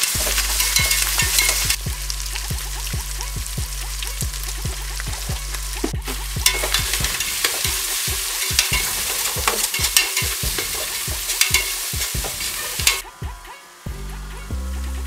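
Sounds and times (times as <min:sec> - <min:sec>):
onions sizzling in oil: 0:00.0 - 0:13.0
metal spatula scraping pot: 0:00.0 - 0:13.1.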